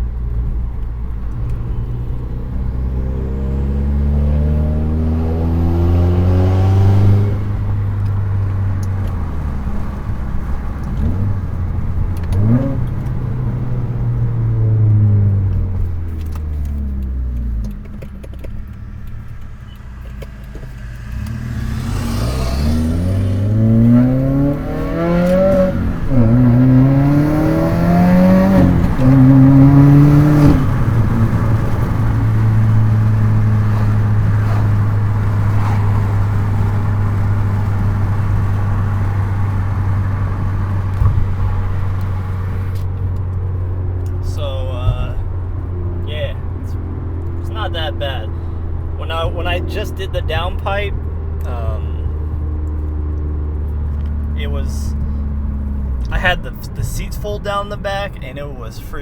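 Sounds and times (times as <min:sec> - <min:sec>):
car engine revving through gears: 0:00.2 - 0:59.0.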